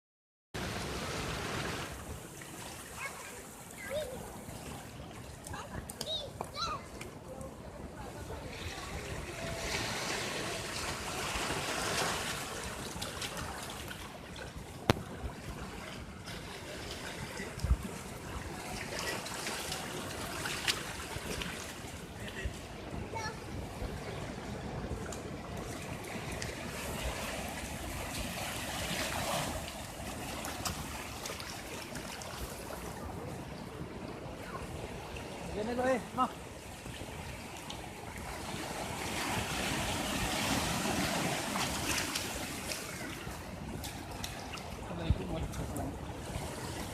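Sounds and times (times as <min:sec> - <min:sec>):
wave breaking on beach: 0:00.6 - 0:06.2, 0:07.8 - 0:46.9.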